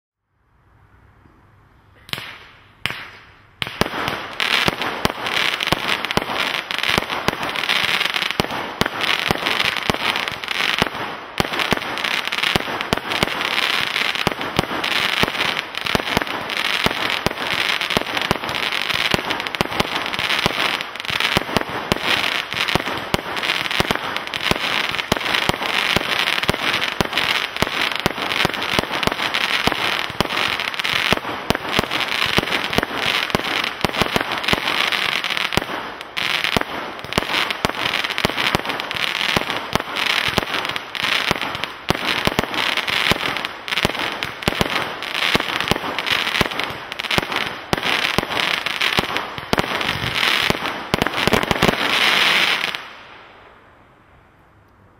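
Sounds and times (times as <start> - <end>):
firework barrage launches and bursts: 2.1 - 53.2.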